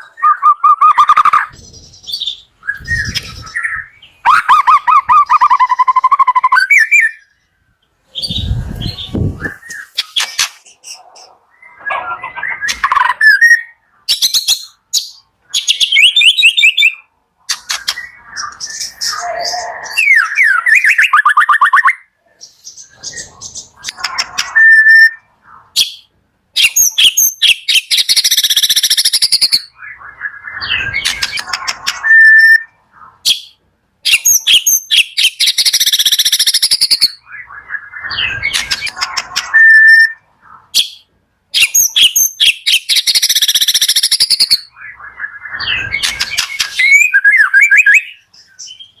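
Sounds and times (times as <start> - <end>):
songbird singing: 0.0 - 49.0.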